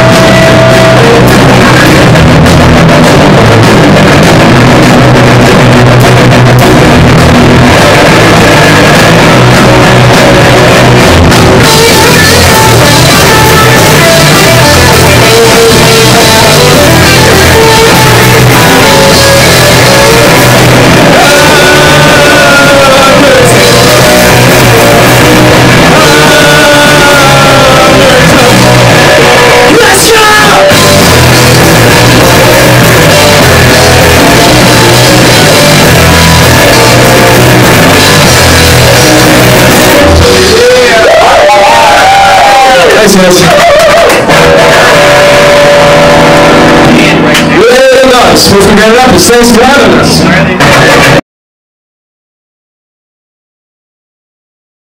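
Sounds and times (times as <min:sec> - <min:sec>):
bass guitar: 0:00.0 - 0:51.2
drum kit: 0:00.0 - 0:51.2
electric guitar: 0:00.0 - 0:51.2.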